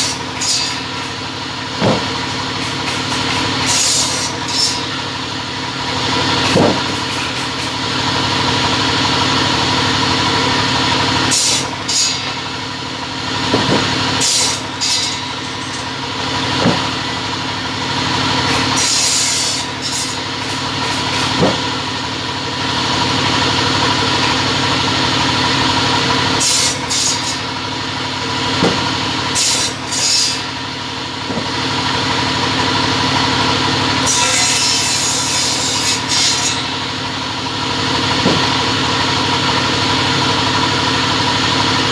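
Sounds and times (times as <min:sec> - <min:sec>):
cutting saw running: 0:00.0 - 0:41.9
saw blades cutting stock: 0:00.0 - 0:41.9.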